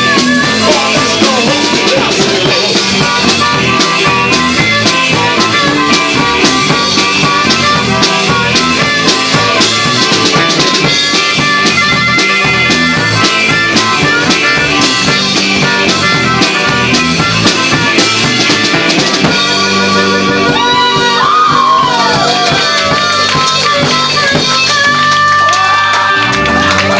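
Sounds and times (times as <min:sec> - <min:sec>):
drum kit beat: 0:00.0 - 0:26.9
rockabilly band playing: 0:00.0 - 0:26.9.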